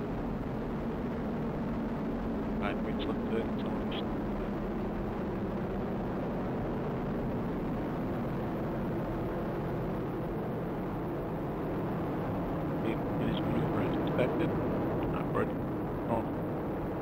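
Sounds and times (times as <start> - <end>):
rocket engine rumble: 0.0 - 17.0.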